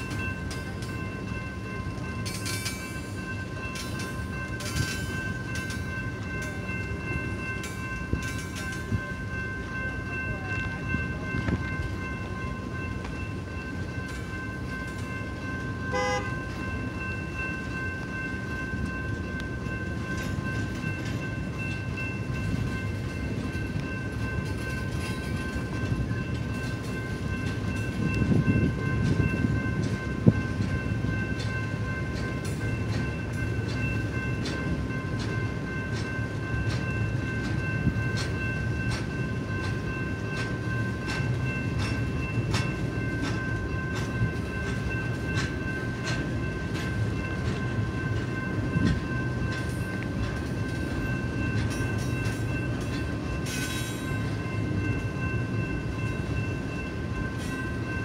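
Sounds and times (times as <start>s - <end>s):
clicks and clanks of train wheels: 0.0s - 58.0s
high ringing tone: 0.0s - 58.0s
train rumbling past: 0.0s - 58.0s.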